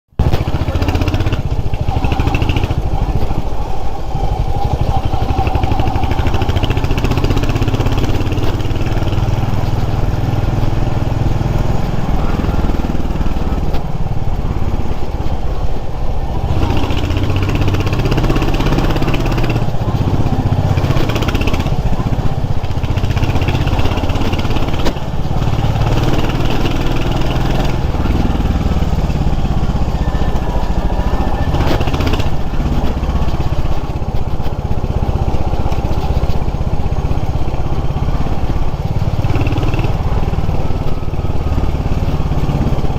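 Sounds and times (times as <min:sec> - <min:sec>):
motorcycle engine running: 0:00.1 - 0:42.9.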